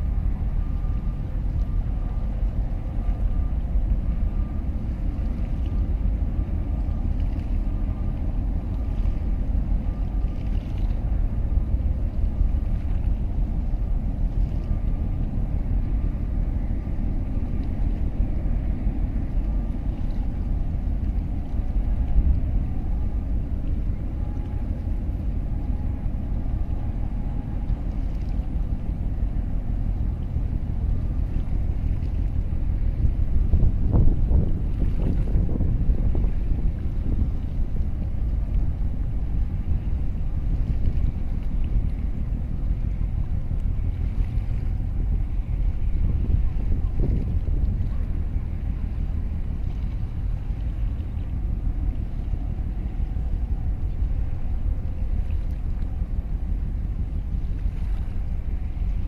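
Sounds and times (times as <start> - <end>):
faint whine: 0.0 - 59.0
motorboat engine rumbling: 0.0 - 59.0
water noise: 0.0 - 59.0.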